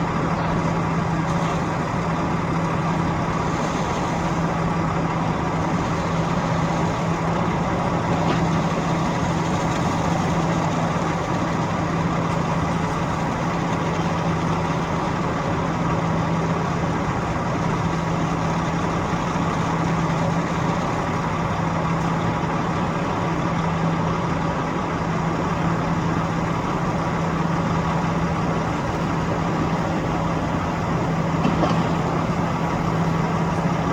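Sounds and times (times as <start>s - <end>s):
machinery engine humming: 0.0s - 33.9s.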